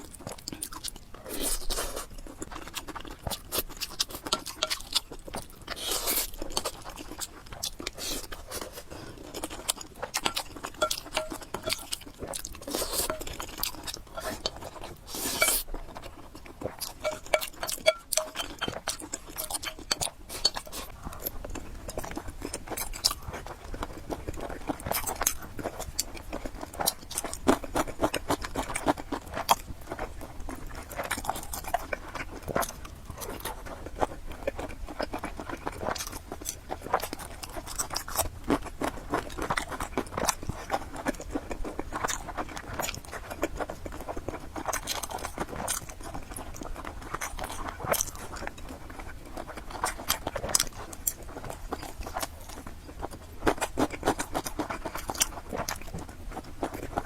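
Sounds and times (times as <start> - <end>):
chewing noodles: 0.0 - 57.0.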